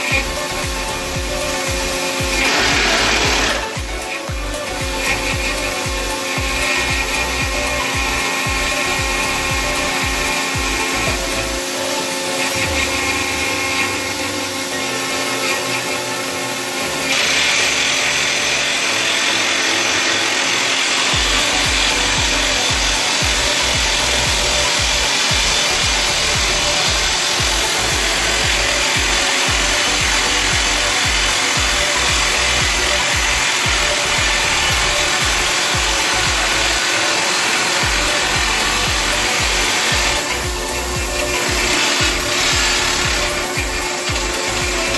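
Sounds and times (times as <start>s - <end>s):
hydraulic rock drill drilling: 0.0s - 44.9s.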